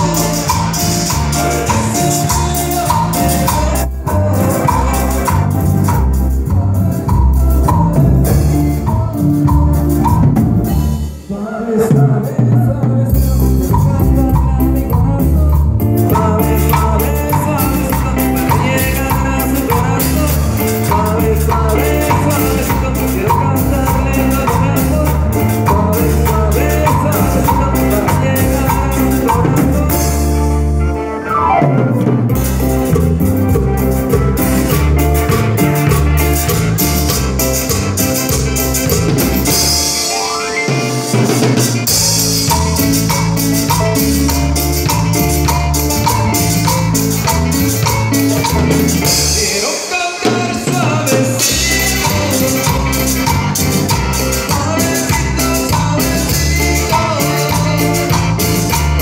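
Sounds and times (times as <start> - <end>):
electronic keyboard dance music: 0.0 - 11.3, 13.7 - 59.0
guira scraping rhythm: 0.0 - 30.6, 31.2 - 59.0.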